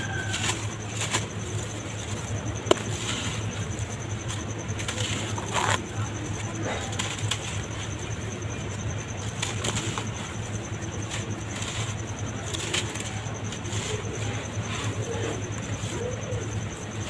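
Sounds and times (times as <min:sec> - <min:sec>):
sharp crackles: 0:00.0 - 0:17.0
steady low hum: 0:00.0 - 0:17.0.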